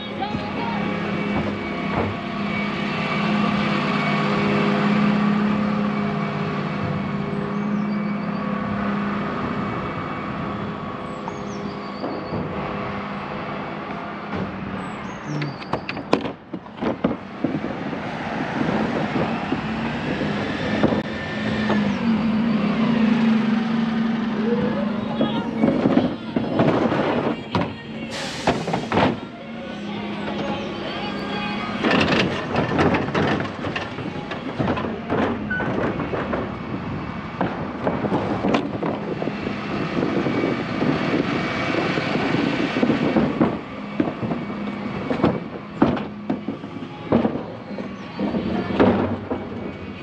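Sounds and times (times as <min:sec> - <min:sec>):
truck diesel engine running: 0:00.0 - 0:15.6, 0:16.4 - 0:50.0.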